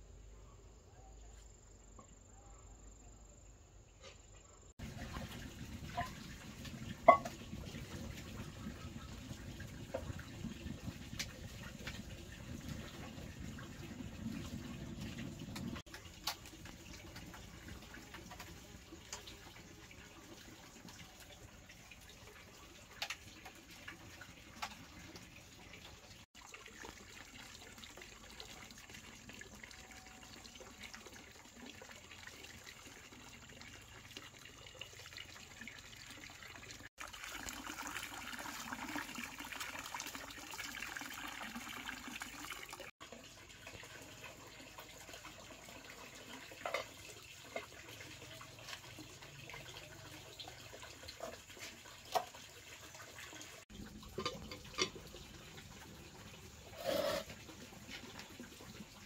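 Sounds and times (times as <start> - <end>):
water running and splashing: 4.8 - 59.0.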